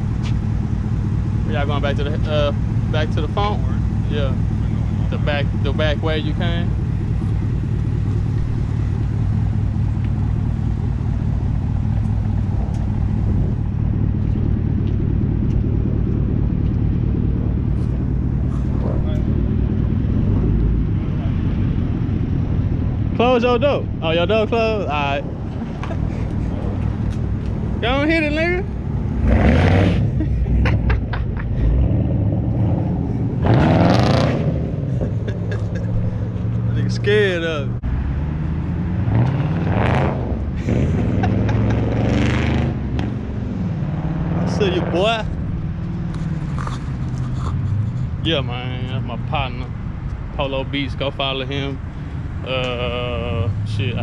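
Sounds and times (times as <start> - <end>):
car engine idling: 0.0 - 38.9, 40.3 - 42.0, 44.5 - 54.0.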